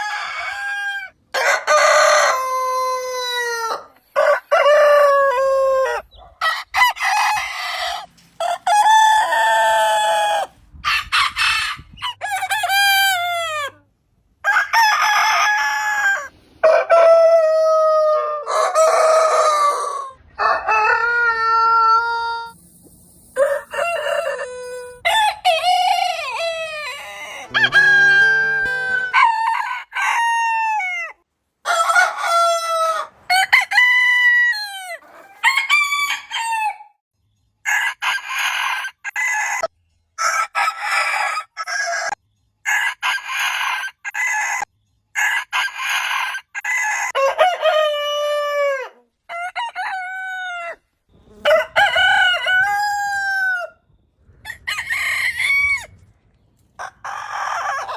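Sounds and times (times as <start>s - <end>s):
roosters crowing: 0.0s - 13.8s, 14.4s - 22.6s, 23.3s - 36.8s, 37.7s - 53.8s, 54.4s - 56.0s, 56.8s - 57.9s.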